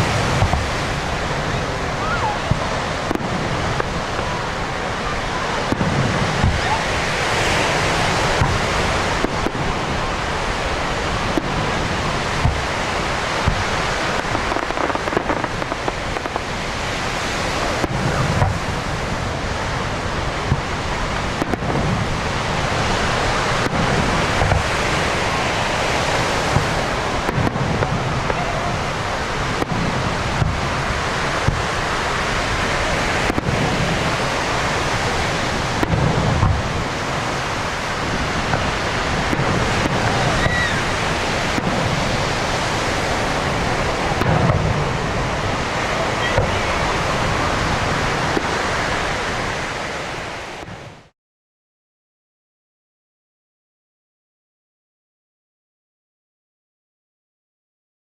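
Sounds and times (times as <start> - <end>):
fireworks crackling and booming: 0.0 - 51.1.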